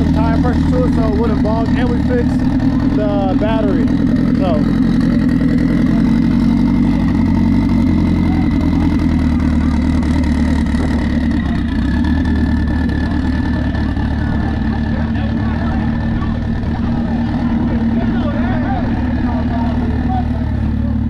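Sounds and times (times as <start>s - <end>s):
car engine idling loudly: 0.0s - 21.0s.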